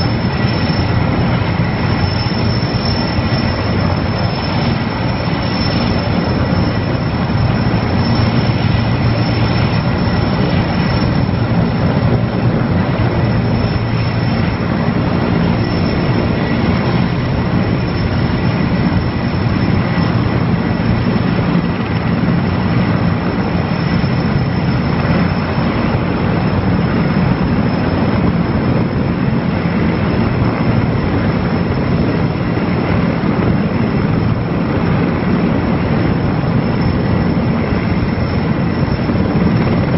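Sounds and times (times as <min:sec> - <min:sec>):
helicopter rotor and turbine noise: 0:00.0 - 0:39.9.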